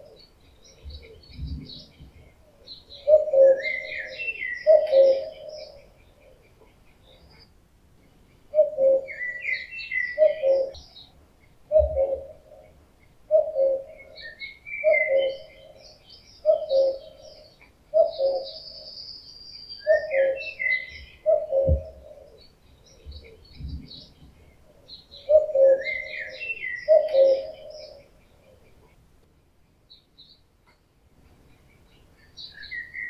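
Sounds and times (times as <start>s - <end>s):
cuckoo calling: 0.0s - 7.5s, 8.3s - 29.0s, 31.6s - 33.0s
songbirds chirping: 0.0s - 33.0s.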